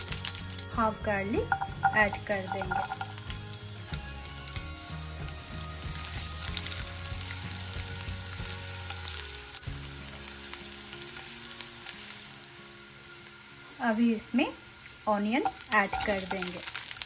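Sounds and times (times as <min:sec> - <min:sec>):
garlic and spices sizzling in butter: 0:00.0 - 0:17.0.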